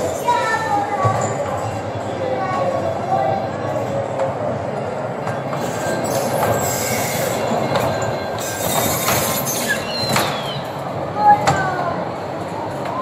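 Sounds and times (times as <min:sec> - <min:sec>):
ride train wheels on rail: 0:00.0 - 0:13.0.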